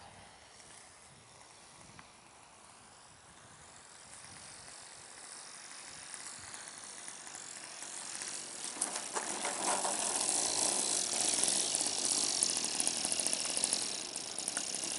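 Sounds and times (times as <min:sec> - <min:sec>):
model plane engine ticking: 0:00.0 - 0:14.9.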